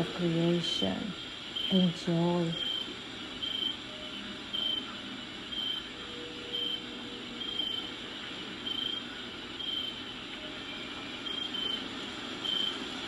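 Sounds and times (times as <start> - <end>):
rain hissing: 0.0 - 13.0
crickets chirping: 0.5 - 8.0, 8.6 - 10.1, 10.8 - 12.9.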